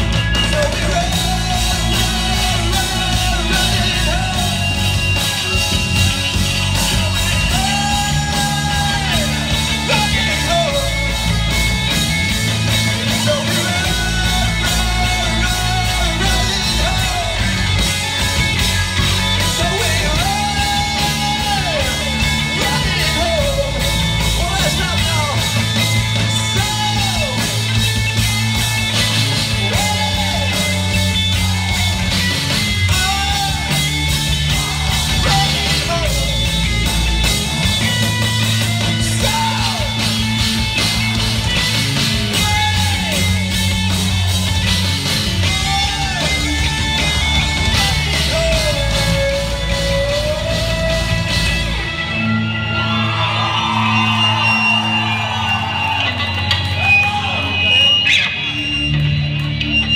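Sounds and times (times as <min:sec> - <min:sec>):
sliding guitar melody: 0:00.0 - 0:53.9
live rock band playing: 0:00.0 - 0:59.9.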